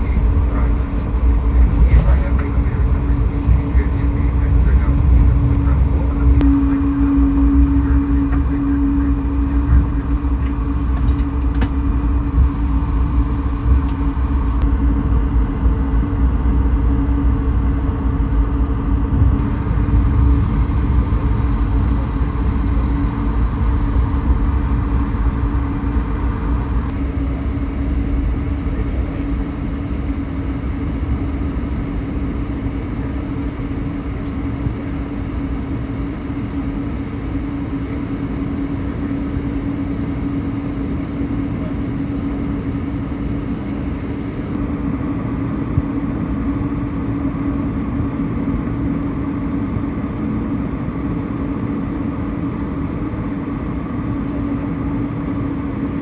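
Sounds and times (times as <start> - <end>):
heavy low rumble: 0.0 - 51.3
jet engine hum in cabin: 0.0 - 56.0.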